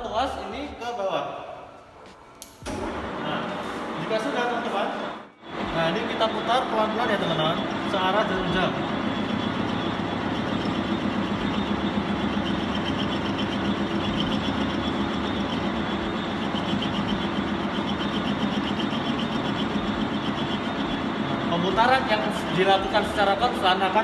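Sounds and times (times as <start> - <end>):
metal lathe cutting steel: 2.7 - 24.0.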